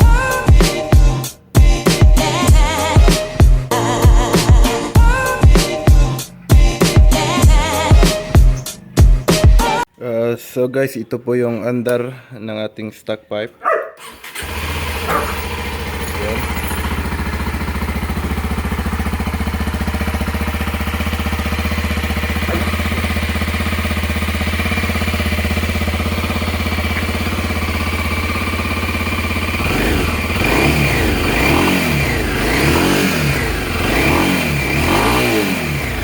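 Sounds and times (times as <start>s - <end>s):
motorcycle engine idling and revving: 0.0s - 9.7s, 13.7s - 36.0s.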